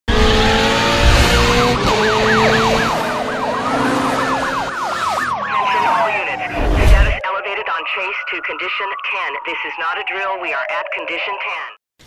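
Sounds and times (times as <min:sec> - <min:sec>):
police car sirens: 0:00.1 - 0:11.8.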